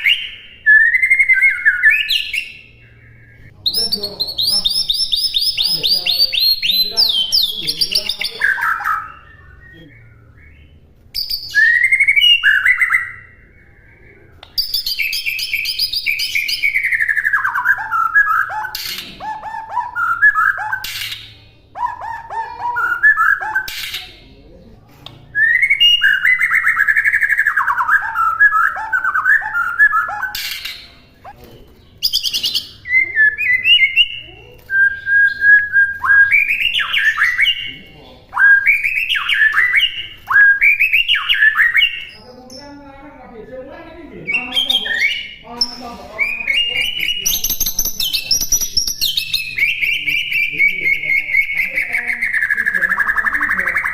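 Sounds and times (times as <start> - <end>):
songbird whistling and warbling: 0.0 - 42.8, 44.2 - 53.9.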